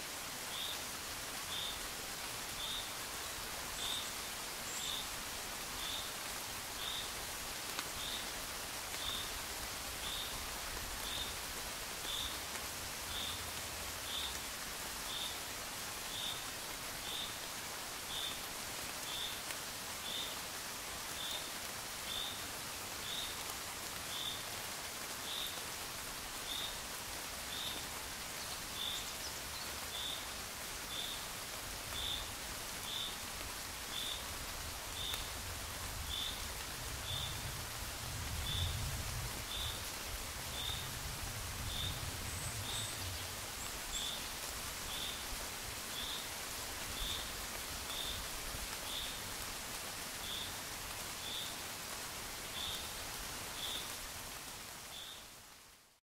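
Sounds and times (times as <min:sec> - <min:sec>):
gentle rain hissing: 0:00.0 - 0:56.0.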